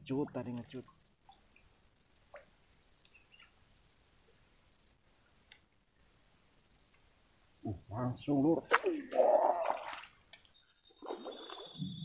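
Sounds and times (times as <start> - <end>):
faint high whine: 0.0 - 12.0
insects trilling: 0.0 - 12.0.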